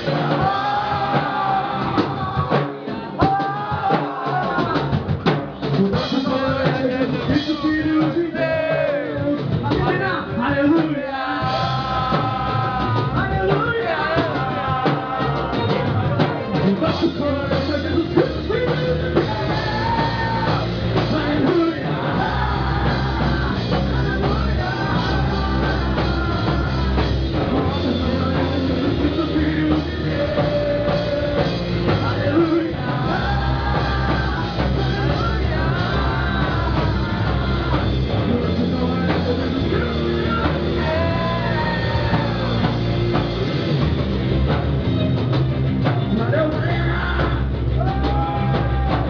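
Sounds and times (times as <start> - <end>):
rock band with singer: 0.0 - 49.0.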